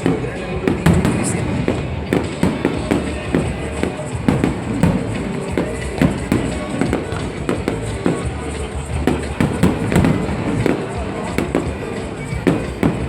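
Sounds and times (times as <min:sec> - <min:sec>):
firework bangs and crackles: 0:00.0 - 0:13.0
loud music: 0:00.0 - 0:13.0.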